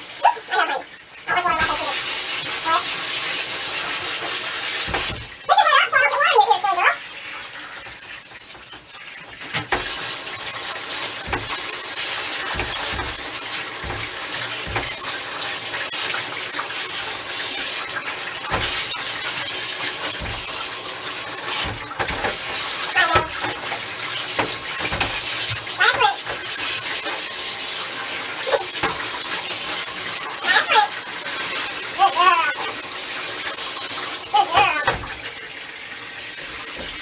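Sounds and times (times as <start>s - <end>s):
shower spray hissing: 0.0s - 35.4s.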